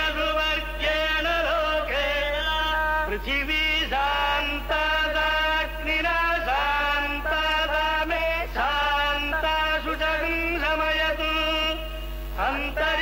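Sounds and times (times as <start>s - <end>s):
person chanting: 0.0s - 13.0s
steady low hum: 0.0s - 13.0s.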